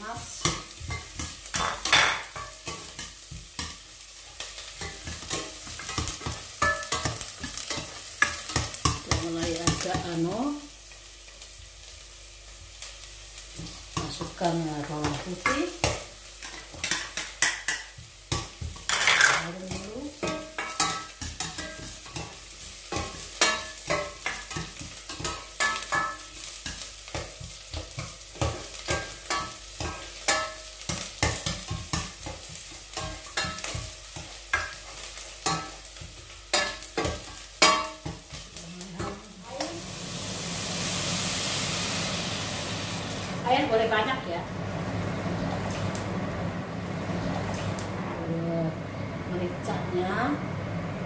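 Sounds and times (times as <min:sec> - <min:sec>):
onion and garlic sizzling in oil: 0:00.0 - 0:51.0.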